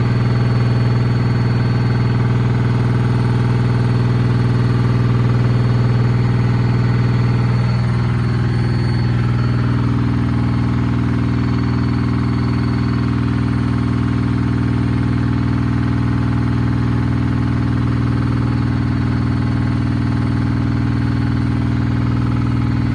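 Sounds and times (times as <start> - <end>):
washing machine droning hum: 0.0 - 22.9.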